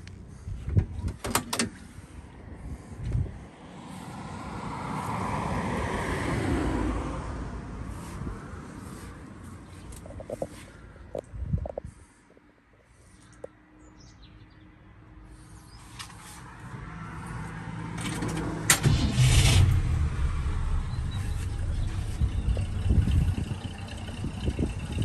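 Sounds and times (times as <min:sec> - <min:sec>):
vehicle engine rumbling: 0:00.0 - 0:13.6, 0:15.0 - 0:25.0.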